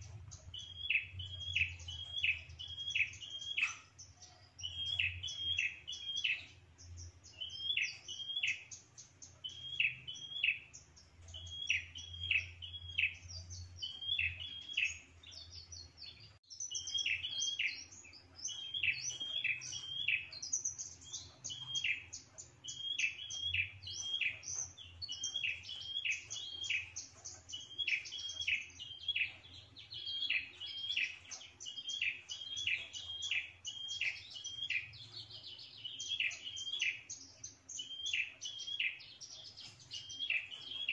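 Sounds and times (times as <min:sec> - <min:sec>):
bird chirping song: 0:00.0 - 0:40.9
bird twittering: 0:00.0 - 0:40.9.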